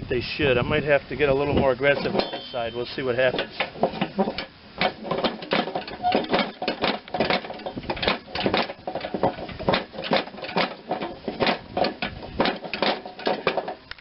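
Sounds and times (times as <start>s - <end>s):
metal-on-metal knocks and clanks: 1.6s - 14.0s.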